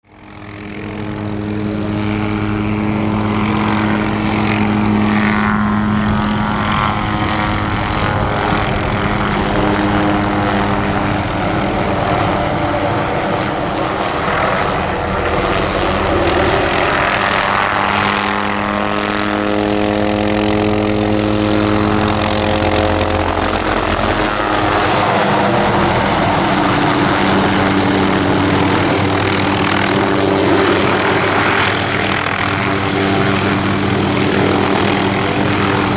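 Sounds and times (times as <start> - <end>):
helicopter rotor and engine drone: 0.0 - 35.9.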